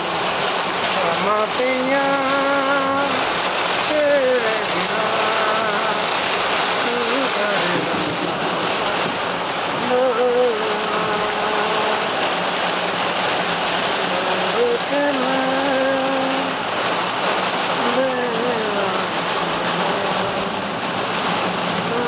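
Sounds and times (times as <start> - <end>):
heavy rain on car roof: 0.0 - 22.0.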